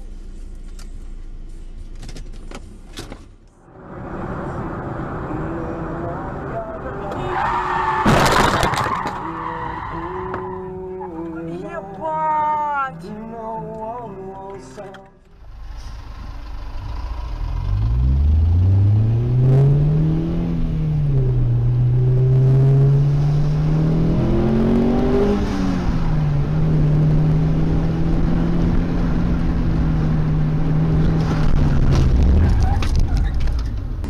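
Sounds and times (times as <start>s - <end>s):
car engine accelerating: 3.4s - 8.5s, 9.1s - 34.0s.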